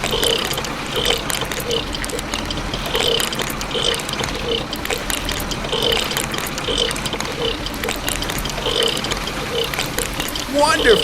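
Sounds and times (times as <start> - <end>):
mechanical clicking and rattling: 0.0 - 11.0.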